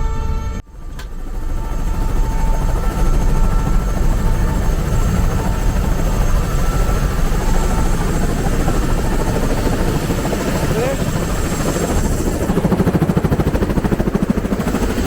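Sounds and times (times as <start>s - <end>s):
helicopter drone: 0.0s - 15.0s.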